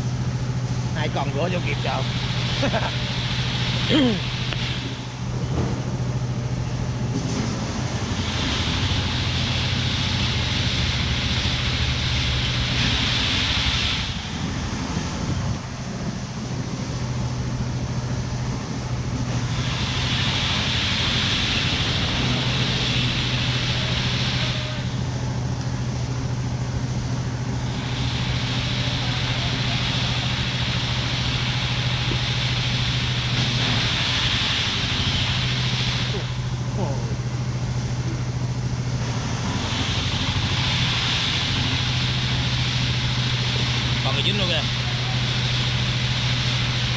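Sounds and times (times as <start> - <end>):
hiss: 0.0 - 46.9
low engine hum: 0.0 - 46.9
wind and water noise: 0.0 - 46.9.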